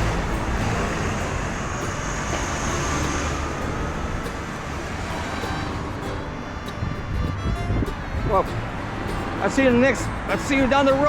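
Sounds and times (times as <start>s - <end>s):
cars passing by: 0.0s - 11.0s.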